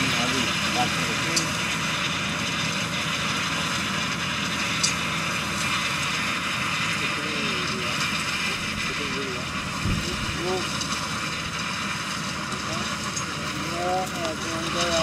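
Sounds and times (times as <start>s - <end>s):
tractor running: 0.0s - 15.0s.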